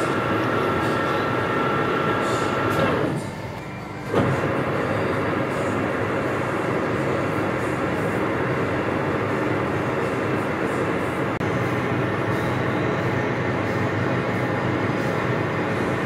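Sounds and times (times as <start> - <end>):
metal lathe running: 0.0 - 16.0.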